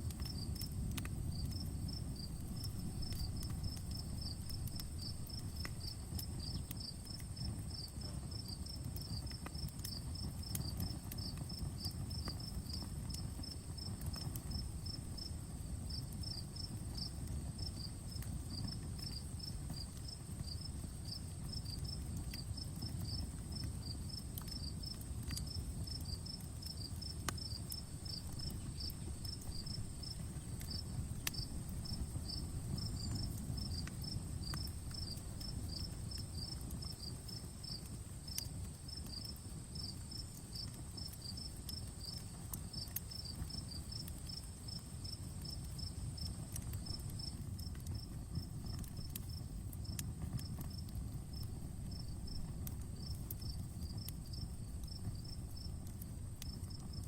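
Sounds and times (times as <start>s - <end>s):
campfire crackling and popping: 0.0s - 57.0s
crickets chirping: 0.1s - 57.0s
high insect trill: 1.3s - 57.0s.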